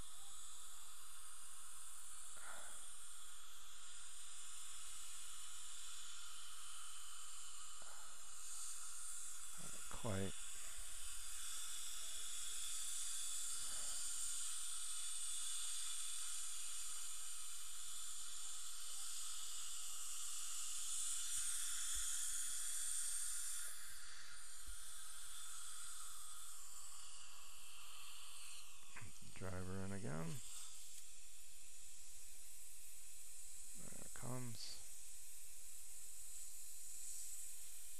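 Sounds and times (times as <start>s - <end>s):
steady high hiss: 0.0s - 37.9s.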